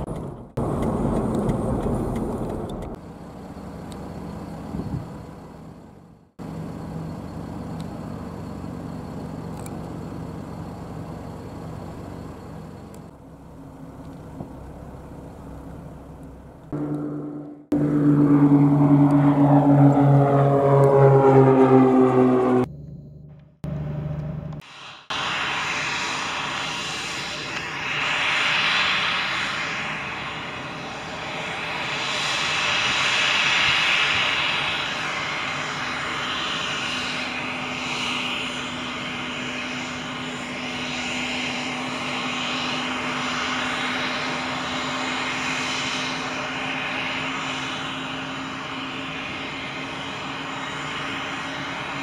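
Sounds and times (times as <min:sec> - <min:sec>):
jet engine hiss and whine: 0:00.0 - 0:22.8, 0:24.5 - 0:52.0.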